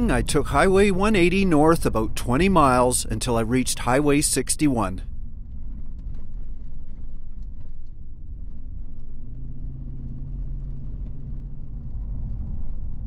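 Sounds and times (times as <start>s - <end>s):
engine and road noise rumble: 0.0s - 13.0s
humming drone: 0.0s - 13.0s.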